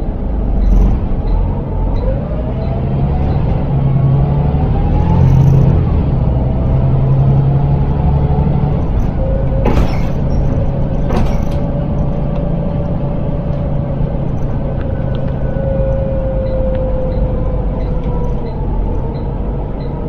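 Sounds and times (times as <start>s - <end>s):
bus diesel engine: 0.0s - 20.0s
transmission whine: 0.0s - 20.0s.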